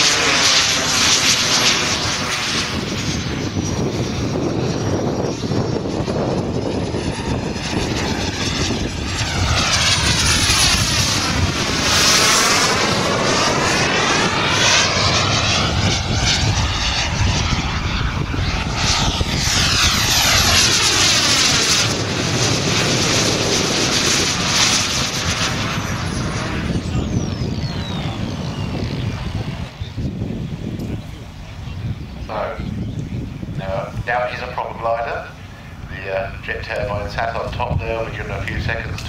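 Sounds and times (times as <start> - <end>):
model jet engine whine: 0.0 - 39.0.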